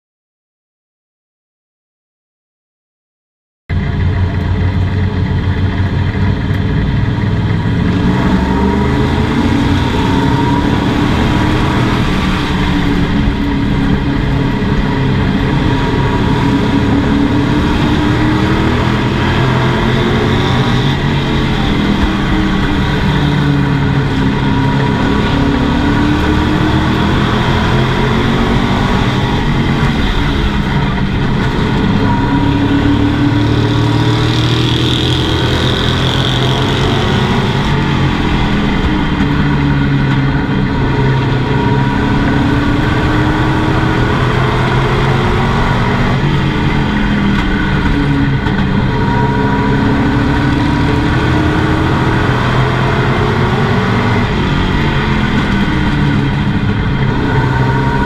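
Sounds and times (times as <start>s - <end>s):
race truck engine revving: 3.7s - 58.0s.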